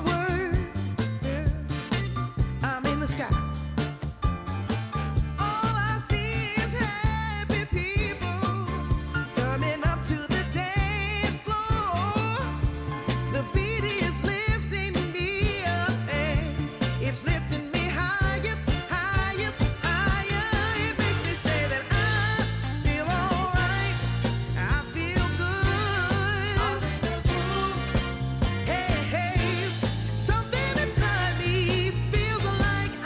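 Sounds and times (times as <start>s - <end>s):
pop soul song with sung vocal: 0.0s - 4.2s, 5.2s - 33.0s.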